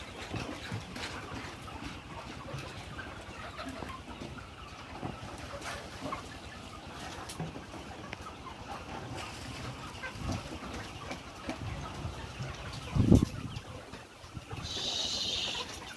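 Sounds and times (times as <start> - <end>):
chickens clucking: 0.0 - 15.9.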